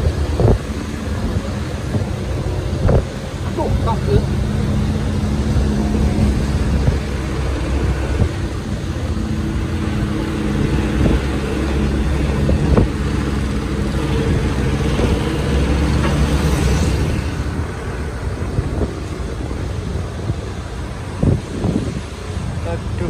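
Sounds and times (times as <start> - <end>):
road noise: 0.0 - 23.0
truck diesel engine droning: 0.0 - 23.0.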